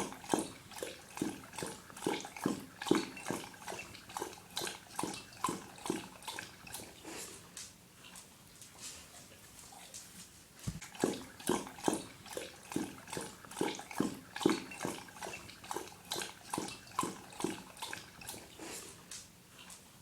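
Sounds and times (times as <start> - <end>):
dog lapping water: 0.0 - 8.5, 10.7 - 19.9.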